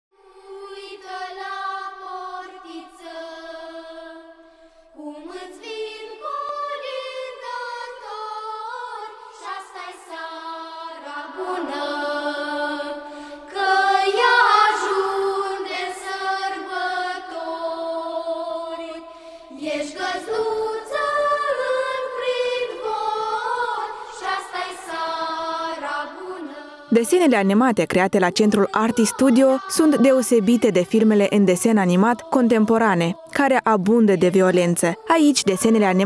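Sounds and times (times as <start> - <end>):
choir singing slow melody: 0.2 - 27.0, 28.3 - 36.0.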